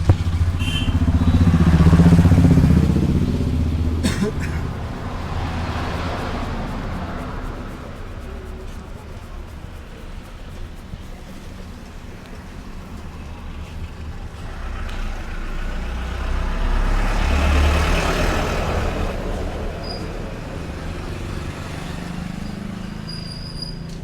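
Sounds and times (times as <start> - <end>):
heavy vehicle passing: 0.0 - 24.0
road hiss: 0.0 - 24.0.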